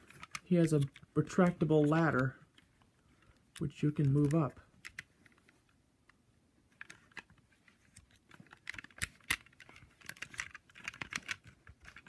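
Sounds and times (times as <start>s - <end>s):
toy parts clicking and rustling: 0.0s - 5.8s, 6.7s - 12.0s.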